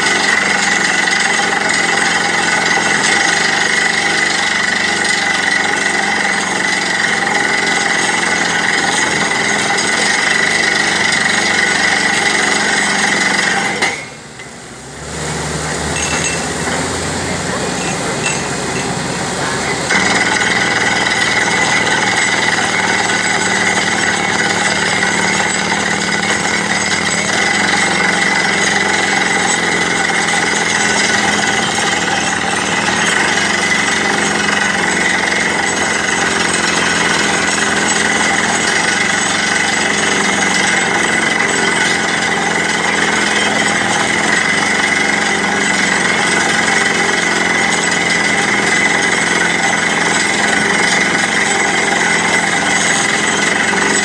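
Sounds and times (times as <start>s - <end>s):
drill hammering rattle: 0.0s - 14.8s, 15.6s - 54.0s.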